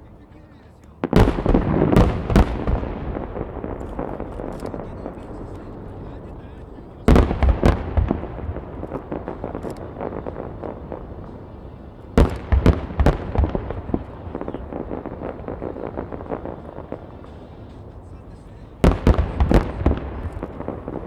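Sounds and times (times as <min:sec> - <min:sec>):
crackling pops: 0:00.0 - 0:21.0
firework shells bursting: 0:00.0 - 0:21.0
loud booms: 0:01.0 - 0:21.0.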